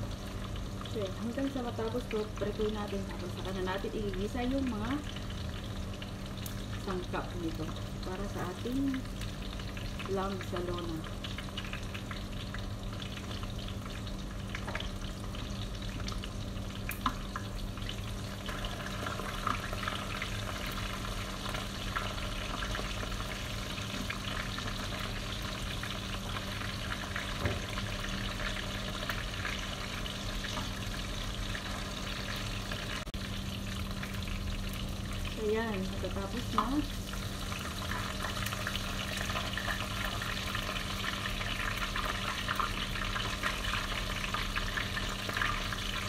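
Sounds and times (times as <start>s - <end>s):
meat frying in hot oil: 0.0s - 46.0s.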